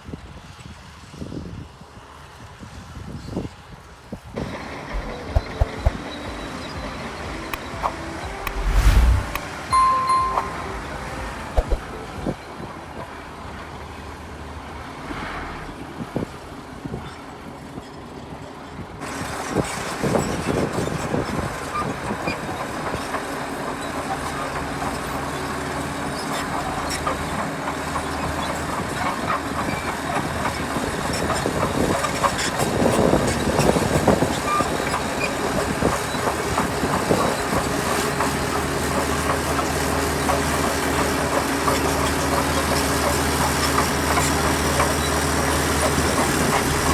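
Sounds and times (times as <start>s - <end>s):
heavy machinery engines droning: 4.3s - 46.9s.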